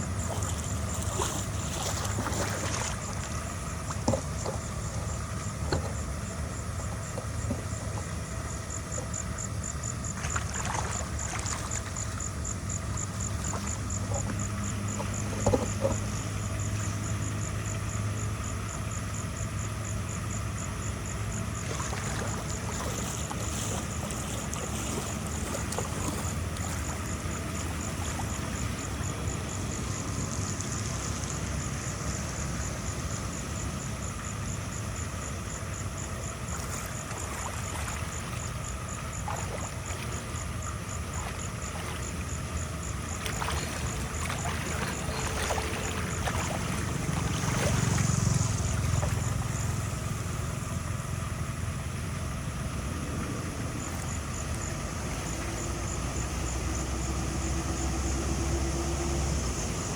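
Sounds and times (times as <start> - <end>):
machine engine droning: 0.0 - 59.9.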